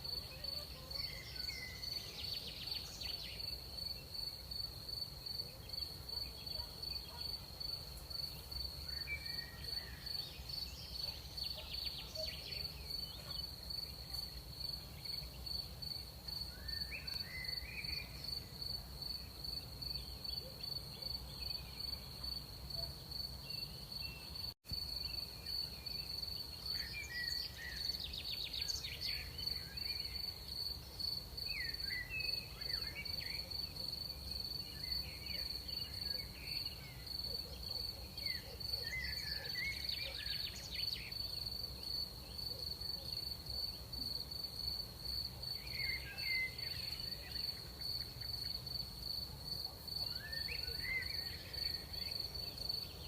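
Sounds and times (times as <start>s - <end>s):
night insects chirping: 0.0s - 53.0s.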